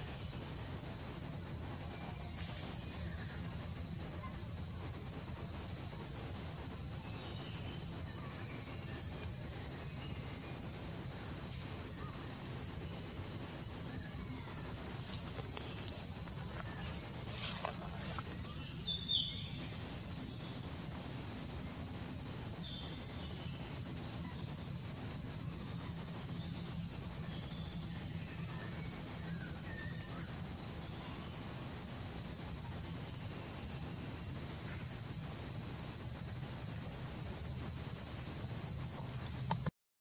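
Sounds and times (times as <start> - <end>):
insects droning high pitch: 0.0 - 39.7
short insect chirps: 6.4 - 39.7.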